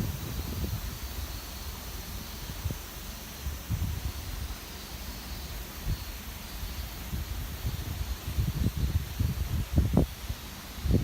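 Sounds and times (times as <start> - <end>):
wind buffeting microphone: 0.0 - 4.6, 5.8 - 11.0.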